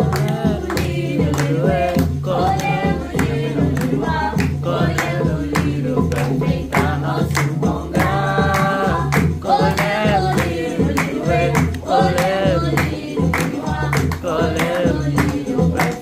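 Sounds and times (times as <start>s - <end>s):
low repeating beat: 0.0s - 16.0s
rhythmic clapping: 0.0s - 16.0s
voices singing: 0.0s - 16.0s.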